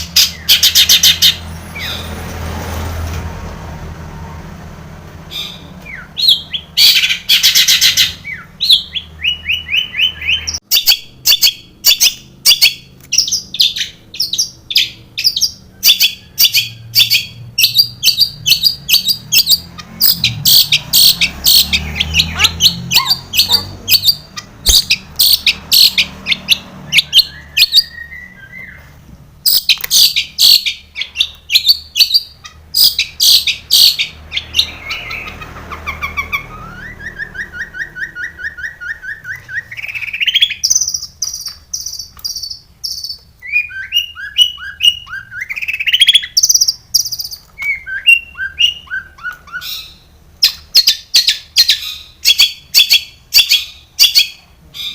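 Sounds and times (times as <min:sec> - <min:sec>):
shrike singing: 0:05.3 - 0:54.9.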